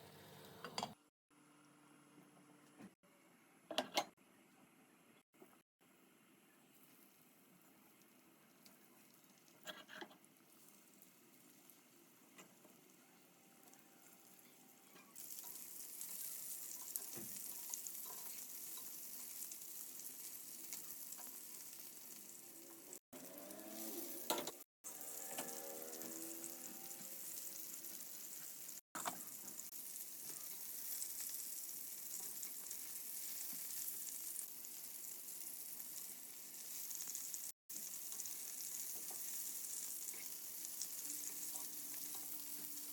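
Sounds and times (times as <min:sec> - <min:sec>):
food sizzling in hot oil: 0:06.8 - 0:42.9.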